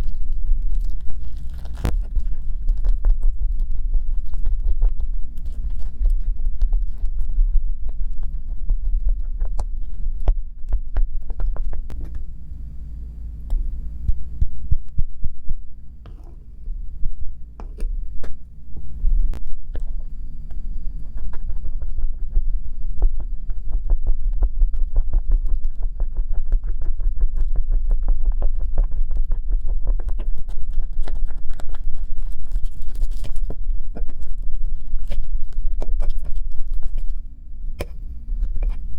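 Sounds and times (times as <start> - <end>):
low throbbing hum: 0.0 - 38.9.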